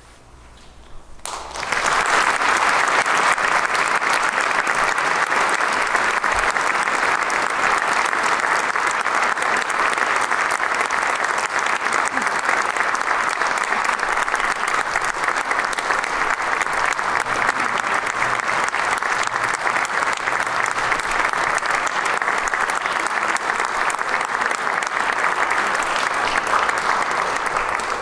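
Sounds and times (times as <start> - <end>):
audience applauding: 1.2 - 28.0.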